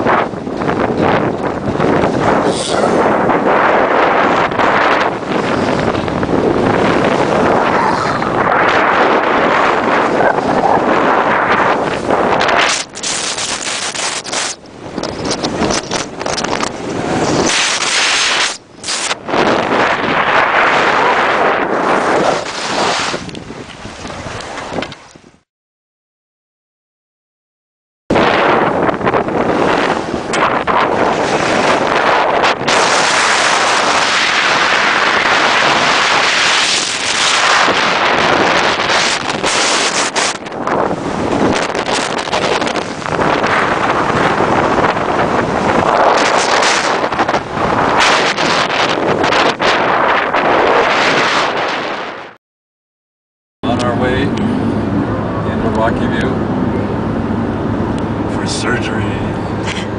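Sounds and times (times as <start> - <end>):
wind rushing over microphone: 0.0 - 25.4, 28.1 - 52.4, 53.6 - 59.9.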